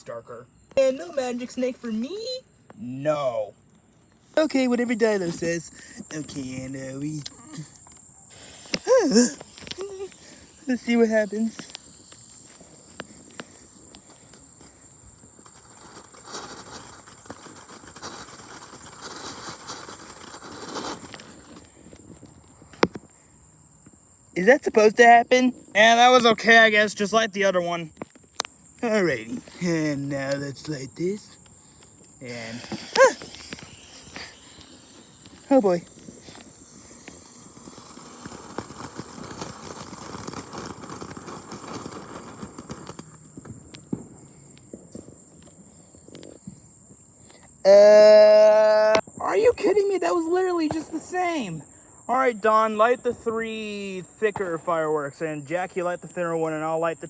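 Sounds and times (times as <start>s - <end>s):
firework hissing: 0.8s - 24.3s, 28.3s - 57.0s.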